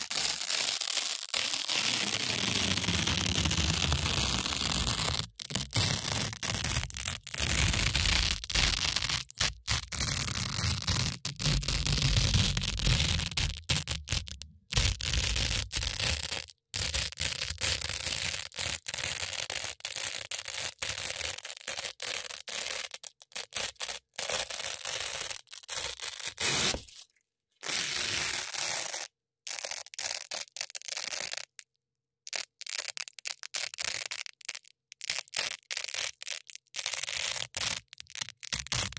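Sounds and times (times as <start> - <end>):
velcro ripping: 0.0 - 31.6, 32.3 - 38.9.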